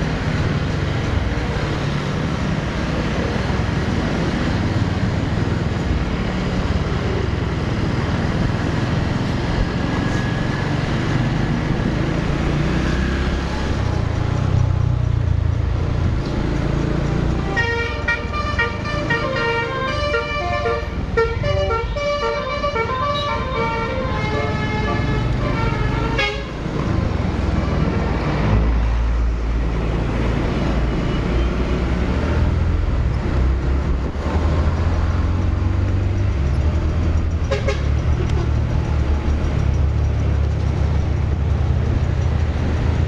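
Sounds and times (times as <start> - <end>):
engines and road traffic rumble: 0.0 - 43.0.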